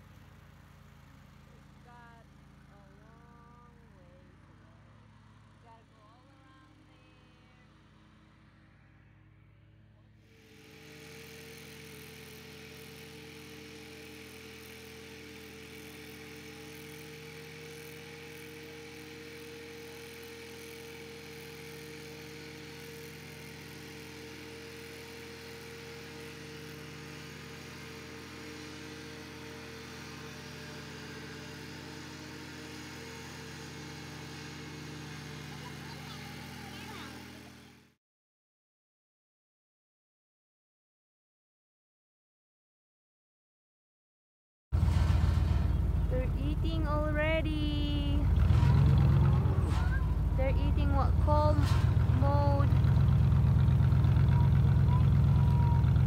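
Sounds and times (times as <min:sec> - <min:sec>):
riding mower engine running: 0:00.0 - 0:38.0, 0:44.8 - 0:56.0.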